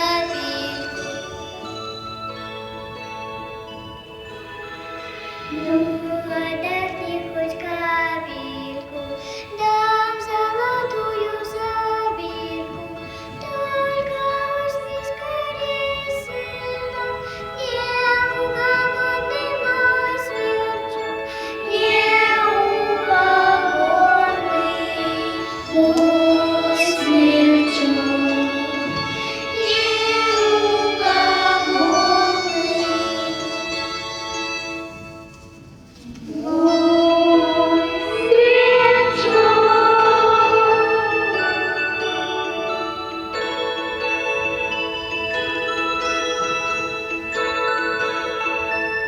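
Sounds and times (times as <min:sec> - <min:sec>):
children singing: 0:00.0 - 0:01.8, 0:05.4 - 0:34.8, 0:36.0 - 0:45.4
musical accompaniment: 0:00.0 - 0:49.0.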